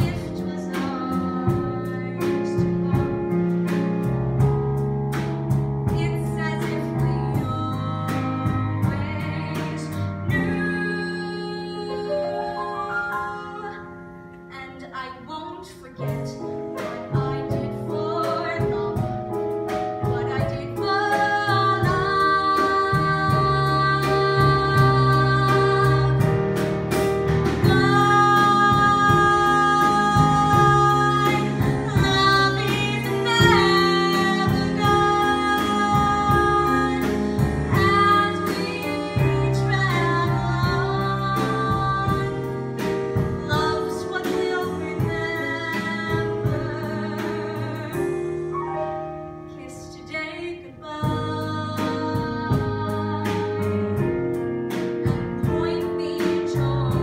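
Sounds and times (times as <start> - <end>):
woman singing a ballad: 0.0 - 4.6, 5.8 - 26.6, 27.6 - 48.5, 49.2 - 57.0
instrumental accompaniment: 0.0 - 57.0.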